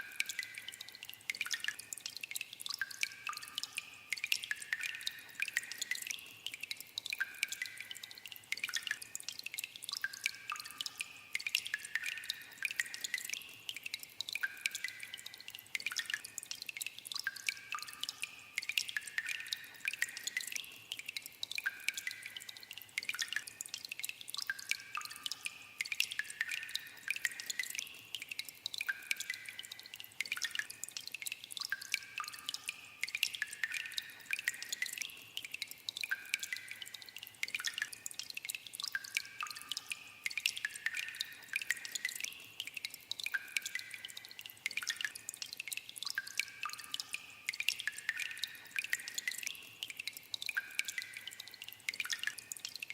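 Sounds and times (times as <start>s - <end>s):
water dripping in a cave: 0.0s - 52.9s.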